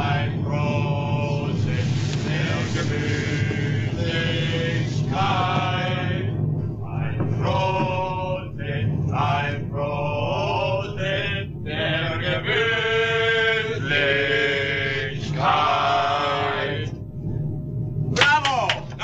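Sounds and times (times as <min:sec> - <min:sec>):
men singing together: 0:00.0 - 0:17.0.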